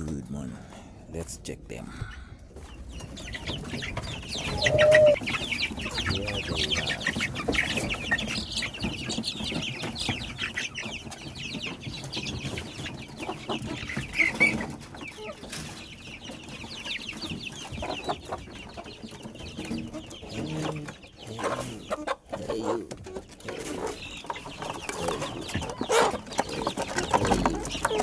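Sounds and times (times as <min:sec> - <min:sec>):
chickens clucking and cheeping: 0:00.0 - 0:28.0.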